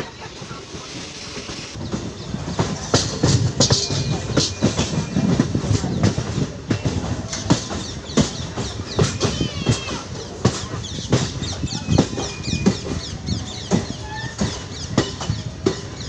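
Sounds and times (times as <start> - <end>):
train rumble: 0.0 - 16.0
train wheels clattering over joints: 0.0 - 16.0.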